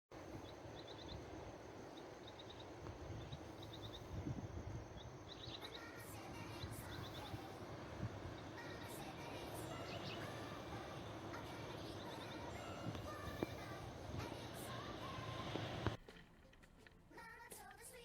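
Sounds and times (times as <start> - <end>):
low steady rumble: 0.2 - 16.0
bird chirping: 0.3 - 16.0.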